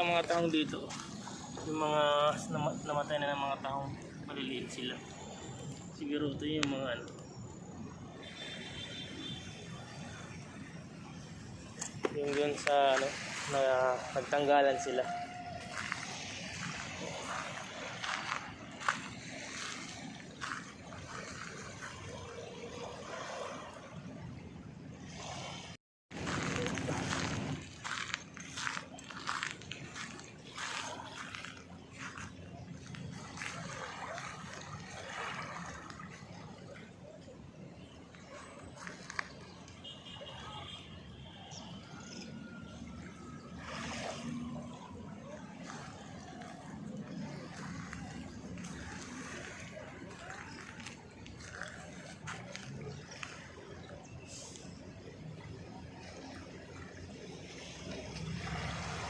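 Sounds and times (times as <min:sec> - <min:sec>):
outdoor noise: 0:00.0 - 0:59.0
water lapping and sloshing: 0:00.0 - 0:59.0.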